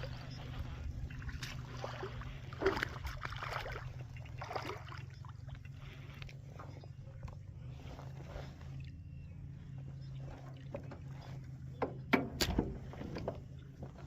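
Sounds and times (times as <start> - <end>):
boat engine hum: 0.0 - 14.0
water noise: 0.0 - 14.0.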